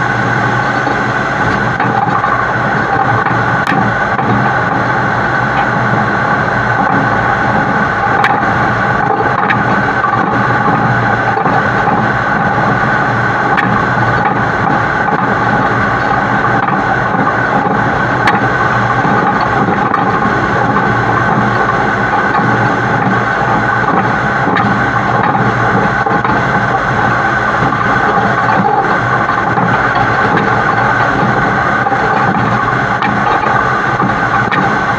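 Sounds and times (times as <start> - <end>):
road and wind noise: 0.0 - 34.9
truck engine hum: 0.0 - 34.9.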